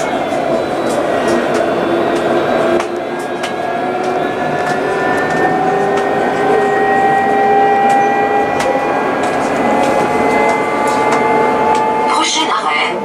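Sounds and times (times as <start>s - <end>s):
tram motor whine: 0.0s - 13.0s.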